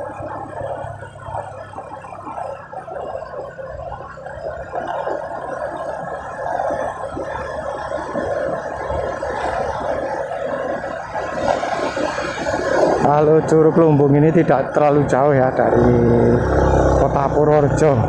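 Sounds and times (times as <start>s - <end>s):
motorcycle engine: 0.0s - 18.0s
road noise: 0.0s - 18.0s
wind rumble on microphone: 0.0s - 18.0s.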